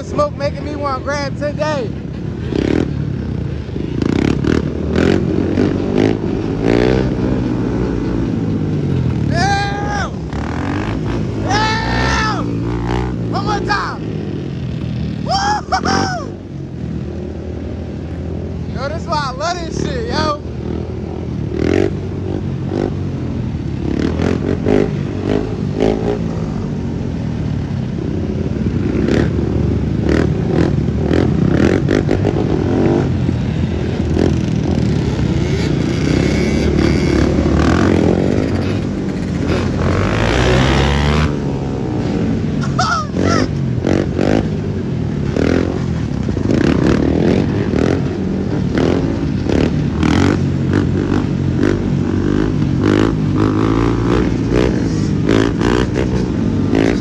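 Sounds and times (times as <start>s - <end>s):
quad and dirt bike engines revving: 0.0s - 57.0s.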